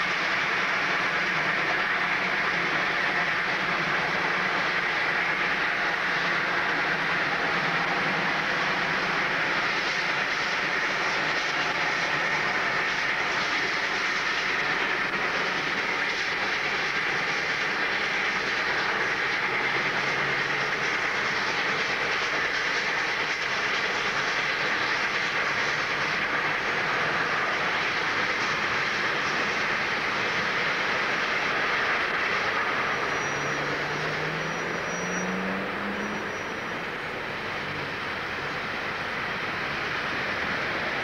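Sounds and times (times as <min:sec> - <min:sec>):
steam locomotive exhaust: 0:00.0 - 0:41.0
wheels clattering on rails: 0:00.0 - 0:41.0.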